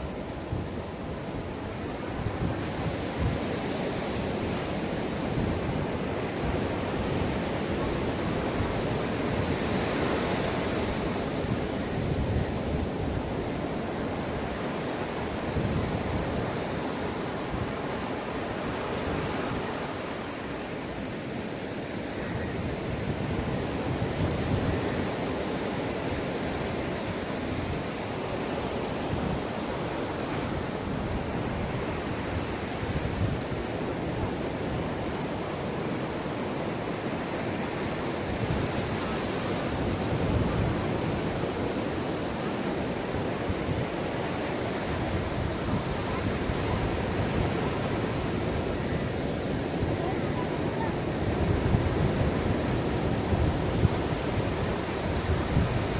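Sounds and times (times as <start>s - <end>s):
ocean waves breaking on a beach: 0.0s - 55.9s.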